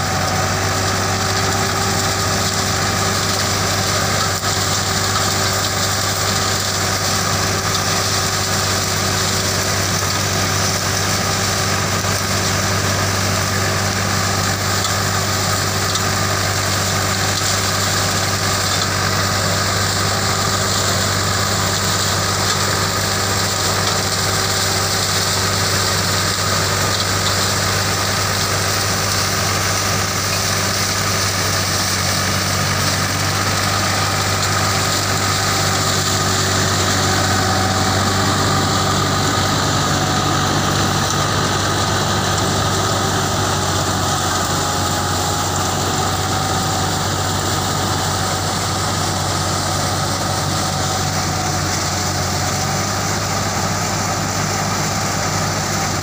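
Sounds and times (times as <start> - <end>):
harvester engine humming: 0.0 - 56.0
hiss of machinery and crop: 0.0 - 56.0.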